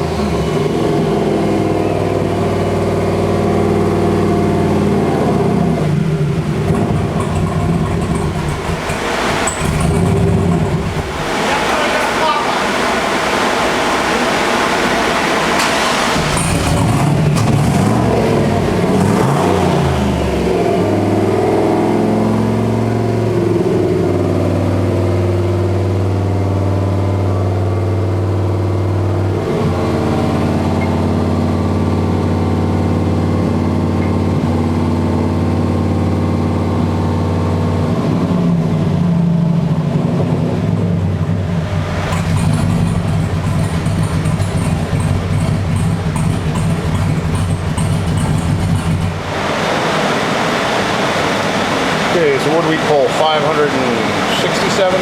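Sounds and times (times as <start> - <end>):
engine revving on a dyno: 0.0 - 55.0.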